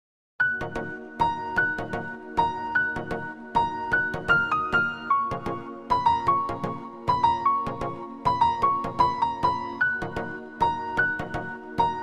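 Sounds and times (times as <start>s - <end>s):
electric piano ringtone melody: 0.4s - 12.0s.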